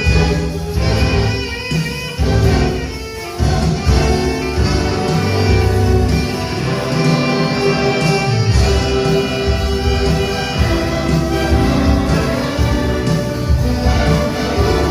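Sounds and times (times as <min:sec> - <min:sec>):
orchestra with violins and bass: 0:00.0 - 0:14.9.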